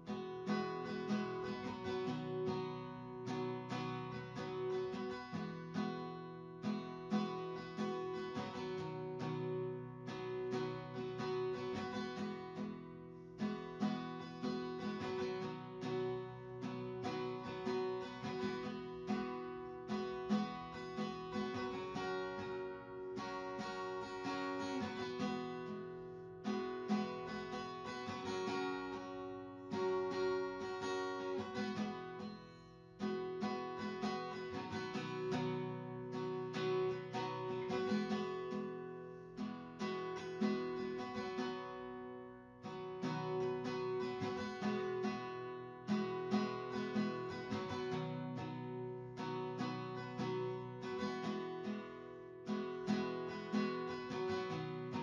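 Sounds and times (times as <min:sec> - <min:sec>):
acoustic guitar music: 0:00.0 - 0:55.0.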